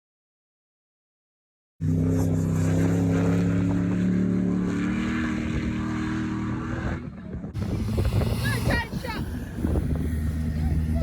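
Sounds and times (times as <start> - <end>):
off-road vehicle engine running: 1.8 - 11.0.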